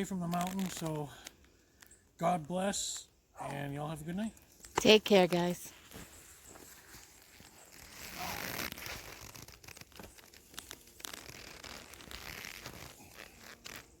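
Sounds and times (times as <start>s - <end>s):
rustling and crinkling handling: 0.0s - 2.0s, 4.6s - 14.0s.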